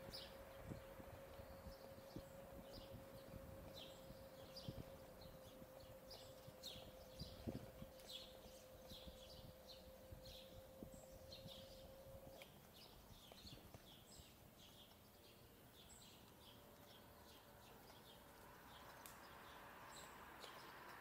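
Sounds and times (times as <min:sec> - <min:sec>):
steady hum: 0:00.0 - 0:20.3
faint songbird chirps: 0:00.0 - 0:21.0
low street rumble: 0:00.0 - 0:21.0.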